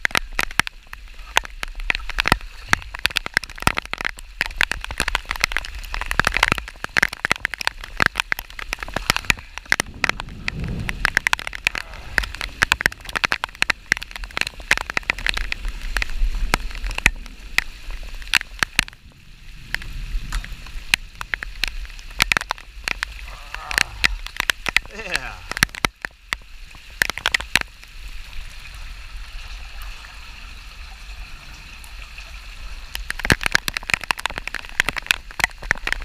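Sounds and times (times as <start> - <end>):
raindrops pattering near microphone: 0.0 - 36.0
wind rumbling on microphone: 0.0 - 36.0.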